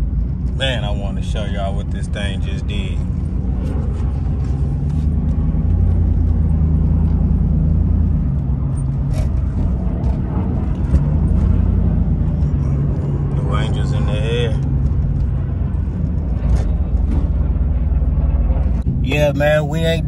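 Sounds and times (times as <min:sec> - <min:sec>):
car engine while driving: 0:00.0 - 0:20.0.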